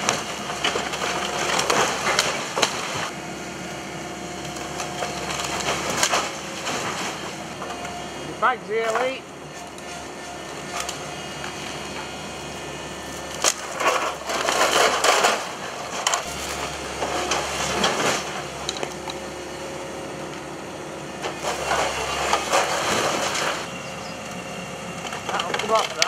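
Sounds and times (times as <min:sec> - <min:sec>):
cracking and crumbling debris: 0:00.0 - 0:03.2, 0:04.2 - 0:26.0
demolition grab crushing building: 0:00.0 - 0:26.0
excavator engine humming: 0:00.0 - 0:26.0.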